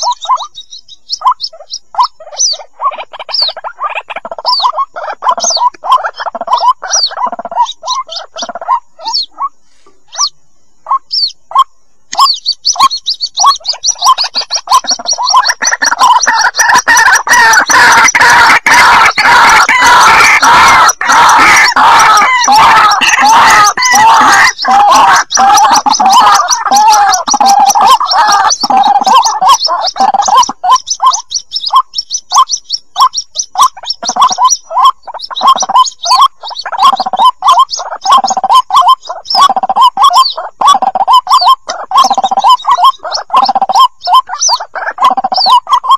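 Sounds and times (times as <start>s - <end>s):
waterhen chicks calling: 0.0s - 45.9s.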